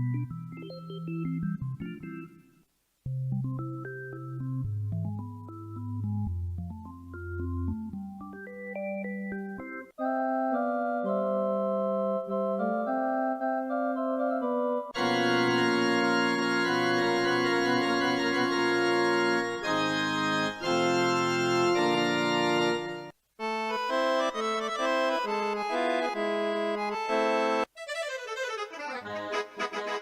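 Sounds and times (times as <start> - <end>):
electronic keyboard playing chords: 0.0 - 2.4, 3.1 - 30.0.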